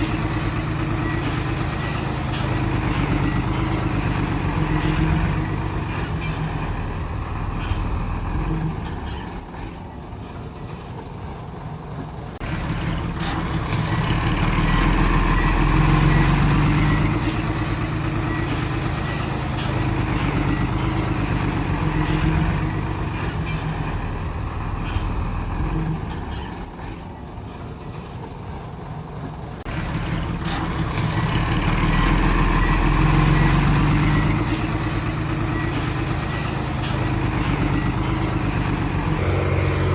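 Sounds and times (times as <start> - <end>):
diesel machine engine running: 0.0 - 39.9.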